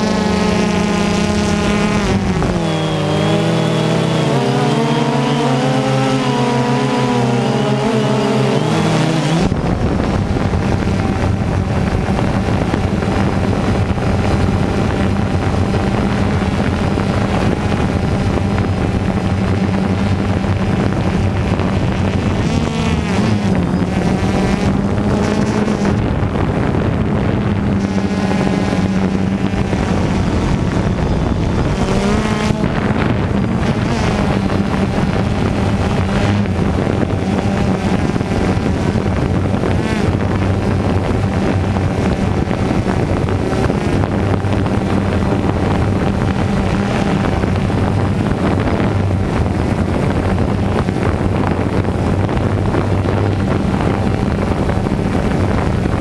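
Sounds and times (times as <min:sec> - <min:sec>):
drone motors and propellers humming: 0:00.0 - 0:56.0.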